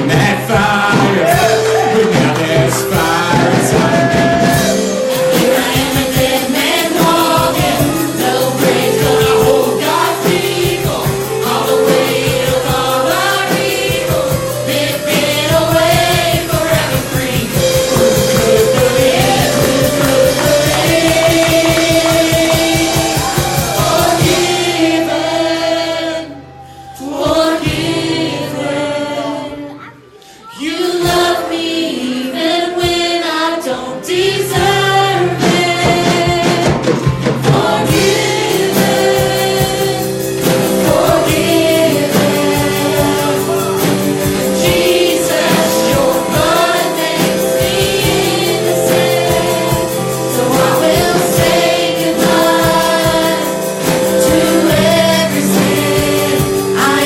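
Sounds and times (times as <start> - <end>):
instrumental accompaniment with beat: 0.0 - 57.0
voices singing worship song: 0.0 - 57.0.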